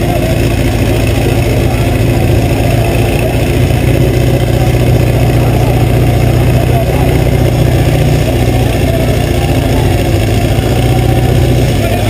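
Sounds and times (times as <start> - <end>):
race car engine idling: 0.0 - 12.0.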